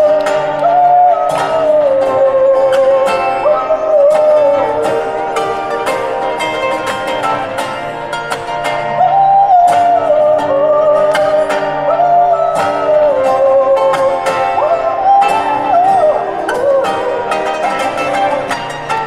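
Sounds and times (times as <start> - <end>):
person singing long notes: 0.0 - 8.1, 8.8 - 19.0
ukulele and guitar strumming: 0.0 - 19.0.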